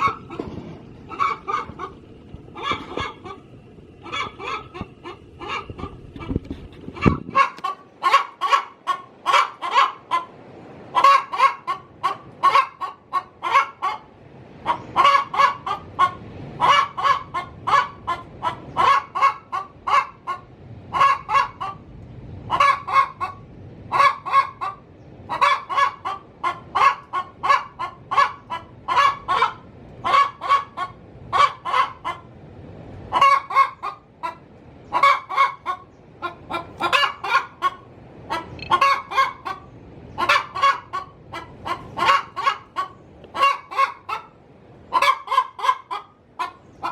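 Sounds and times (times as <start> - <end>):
hen cackling: 0.0 - 32.4, 33.0 - 46.9.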